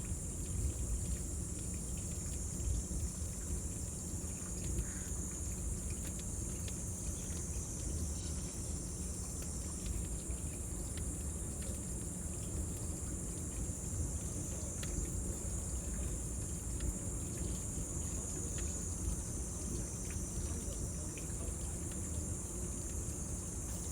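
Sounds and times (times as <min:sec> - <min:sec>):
cicadas droning: 0:00.0 - 0:23.9.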